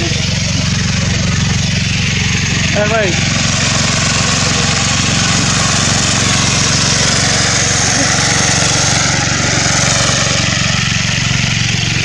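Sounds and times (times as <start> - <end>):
muddy water rushing: 0.0 - 12.0
small engine humming: 0.0 - 12.0.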